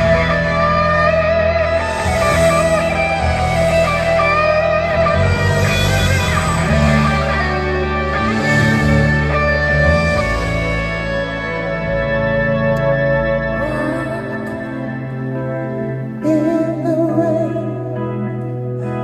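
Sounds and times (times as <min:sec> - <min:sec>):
rock band playing: 0:00.0 - 0:16.0
electric guitar bending notes: 0:00.0 - 0:16.2.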